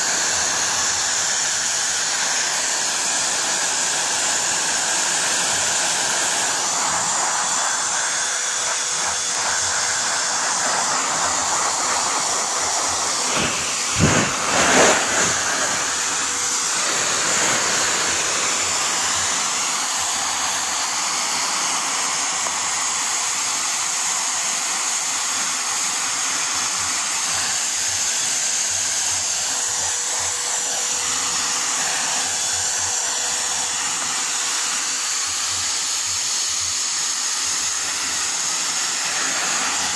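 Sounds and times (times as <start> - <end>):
vacuum blower rushing air: 0.0 - 39.9.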